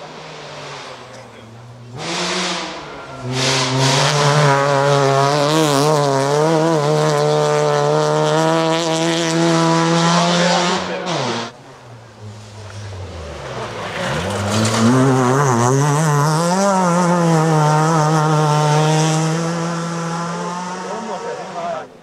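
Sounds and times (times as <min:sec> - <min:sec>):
rally car engine at high revs: 0:00.0 - 0:22.0.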